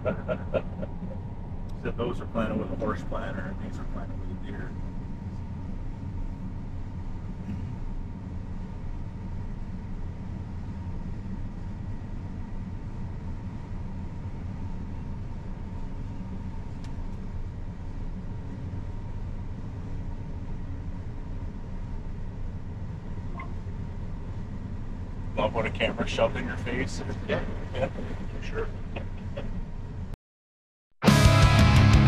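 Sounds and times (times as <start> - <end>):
combine harvester drone: 0.0 - 30.2, 31.0 - 32.0
faint steady whine: 0.0 - 30.2.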